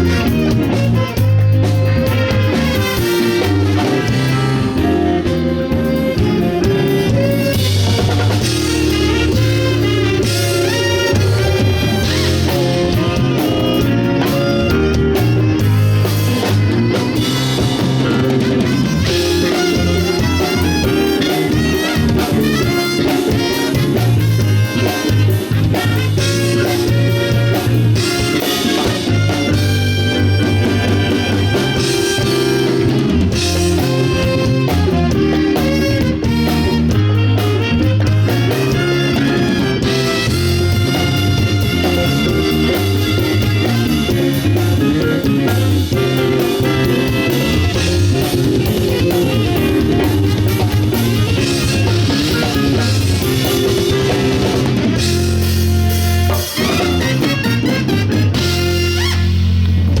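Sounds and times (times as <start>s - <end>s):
wind band with drum kit playing: 0.0s - 60.0s.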